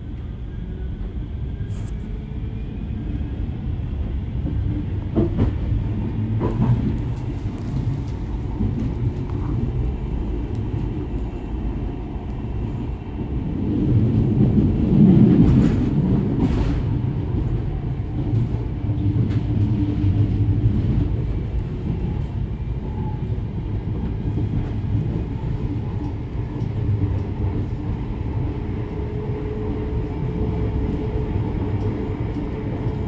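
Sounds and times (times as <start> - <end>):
tram wheels rumbling: 0.0 - 33.0.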